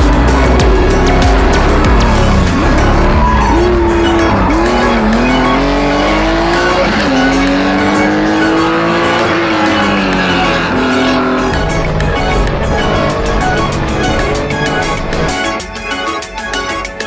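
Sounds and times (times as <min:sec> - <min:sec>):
car engine accelerating hard: 0:00.0 - 0:15.4.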